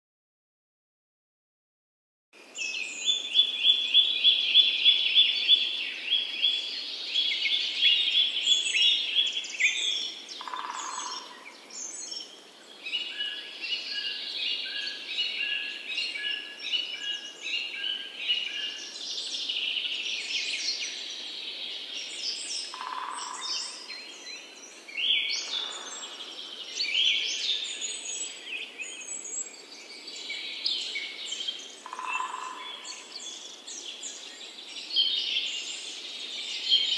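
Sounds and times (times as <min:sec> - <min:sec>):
songbirds singing and calling: 0:02.4 - 0:36.9.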